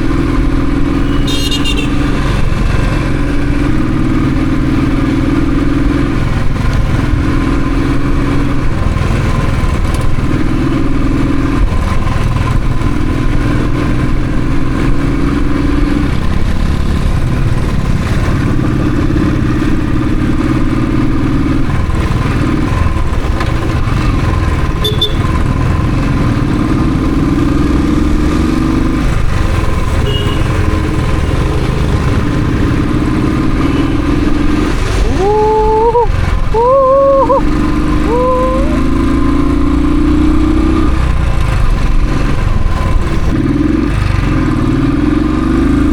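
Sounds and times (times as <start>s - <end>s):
motorcycle engine rumbling: 0.0s - 45.9s.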